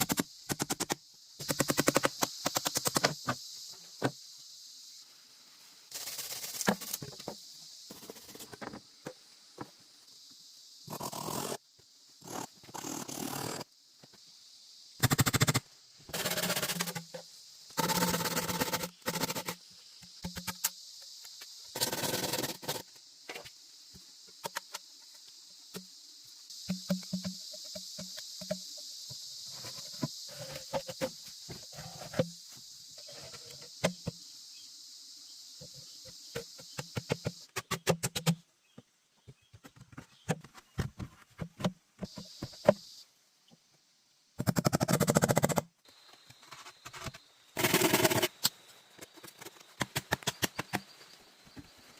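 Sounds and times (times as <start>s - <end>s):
high-pitched insect chorus: 0.0s - 41.2s, 42.0s - 51.9s.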